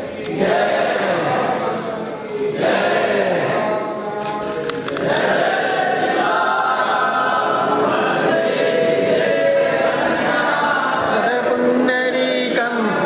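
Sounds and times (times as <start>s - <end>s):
group singing a hymn: 0.0s - 13.0s.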